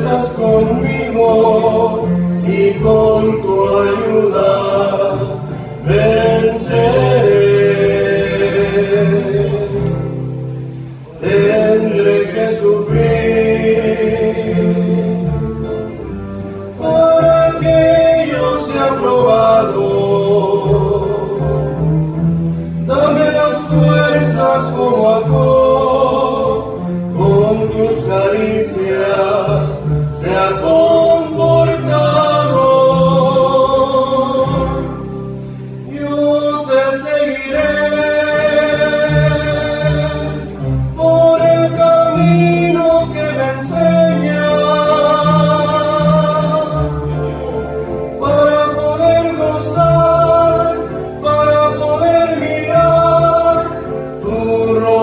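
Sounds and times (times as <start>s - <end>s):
men singing a gospel duet: 0.0s - 10.0s, 11.2s - 15.8s, 16.7s - 21.8s, 22.8s - 55.0s
acoustic guitars: 0.0s - 55.0s.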